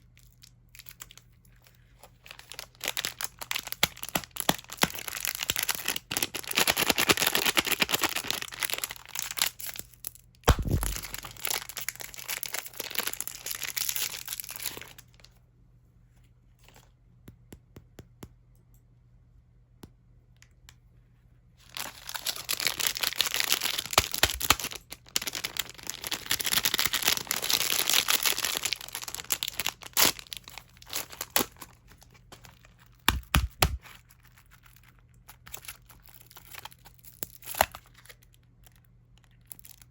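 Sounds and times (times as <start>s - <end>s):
candy wrappers crinkling: 0.0s - 15.4s, 21.6s - 39.9s.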